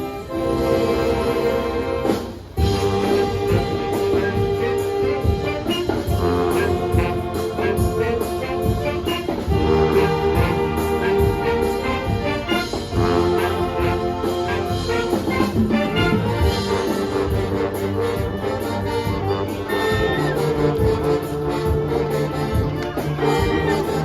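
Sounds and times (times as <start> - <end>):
trumpets and trombones melody: 0.0 - 24.0
steady drum beat: 0.3 - 24.0.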